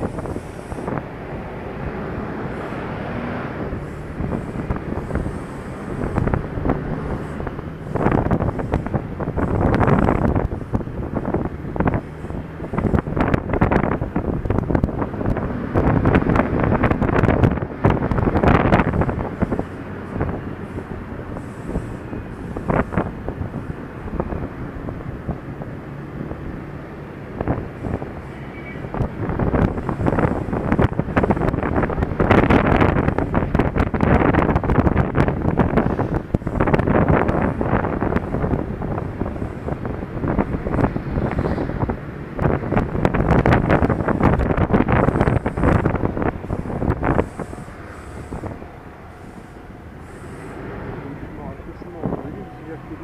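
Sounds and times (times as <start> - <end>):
road noise: 0.0 - 53.0
scooter engine: 0.0 - 53.0
wind buffeting microphone: 0.0 - 53.0.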